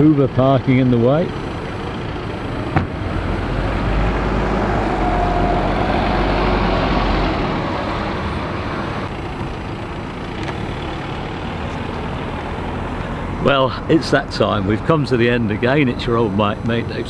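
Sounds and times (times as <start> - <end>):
bus engine rumble passing: 0.0 - 17.0.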